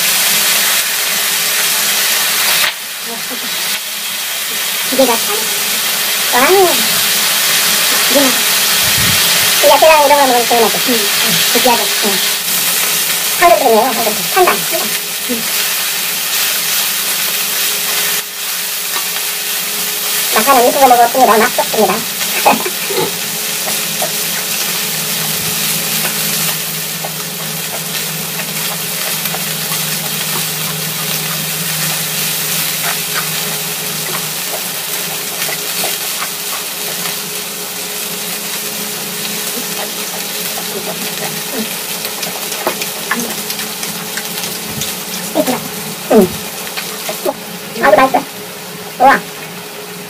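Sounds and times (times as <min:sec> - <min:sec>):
meat and vegetables sizzling on grill pan: 0:00.0 - 0:50.0.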